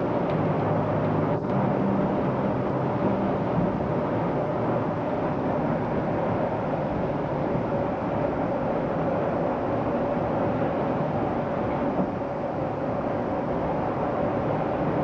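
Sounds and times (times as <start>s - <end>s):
steady hum: 0.0s - 15.0s
train running rumble and hiss: 0.0s - 15.0s.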